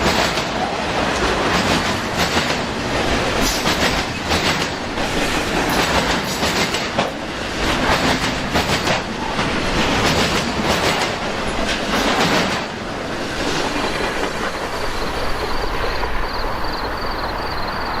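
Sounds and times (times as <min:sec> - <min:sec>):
train rumble: 0:00.0 - 0:18.0
train wheels clicking on rails: 0:00.0 - 0:18.0.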